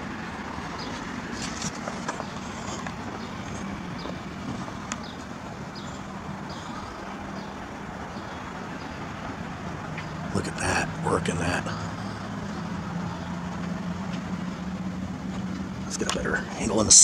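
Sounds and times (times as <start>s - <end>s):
cars passing and idling: 0.0s - 17.0s.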